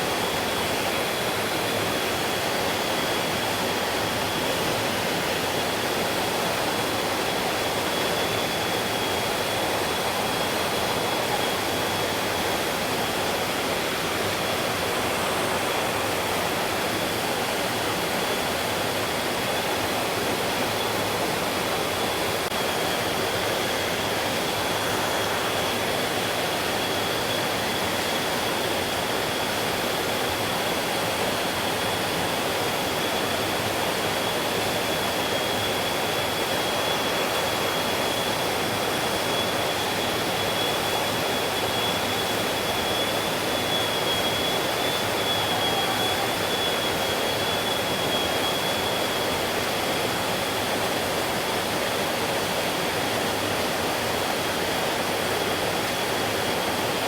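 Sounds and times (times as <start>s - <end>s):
high-pitched whine: 0.1s - 53.9s.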